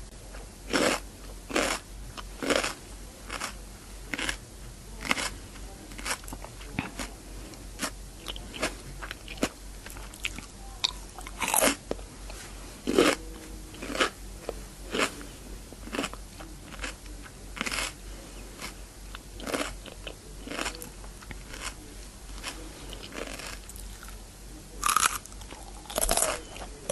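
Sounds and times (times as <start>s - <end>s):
cucumber crunching being chewed: 0.7s - 4.4s, 5.0s - 7.1s, 7.8s - 15.2s, 15.8s - 18.0s, 18.6s - 21.8s, 22.4s - 24.2s, 24.8s - 26.9s.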